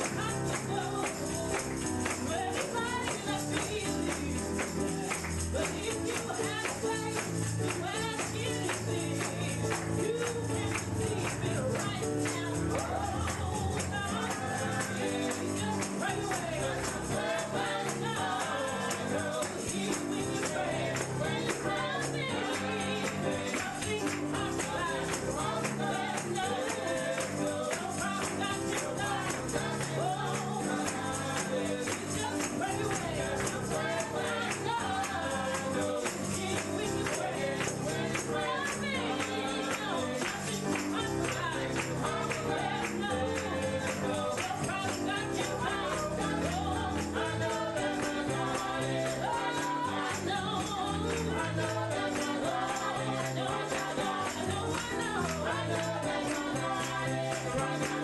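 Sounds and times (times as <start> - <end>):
gospel singing: 0.0 - 58.0
tambourine shaking: 0.0 - 58.0.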